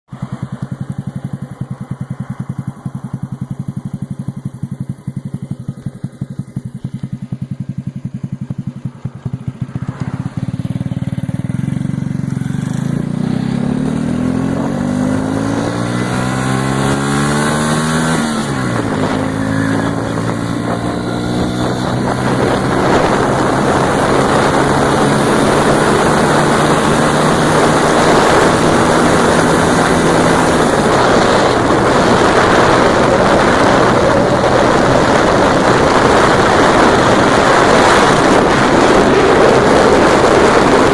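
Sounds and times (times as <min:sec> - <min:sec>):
motorcycle engine idling and revving: 0:00.0 - 0:40.9
wind rush: 0:06.6 - 0:40.9.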